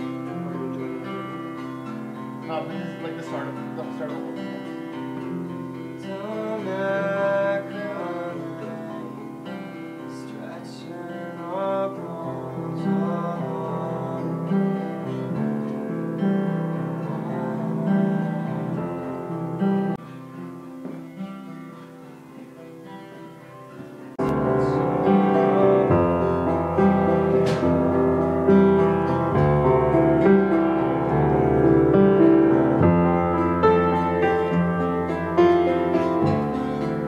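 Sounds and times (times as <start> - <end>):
person singing: 0.0 - 3.2, 5.8 - 19.5, 23.8 - 37.0
acoustic guitar: 0.0 - 37.0
piano music: 0.0 - 37.0.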